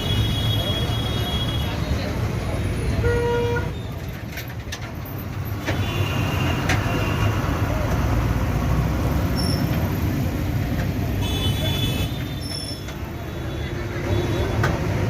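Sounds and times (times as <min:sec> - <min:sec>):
heavy vehicle engines rumbling: 0:00.0 - 0:15.0
road traffic: 0:00.0 - 0:15.0.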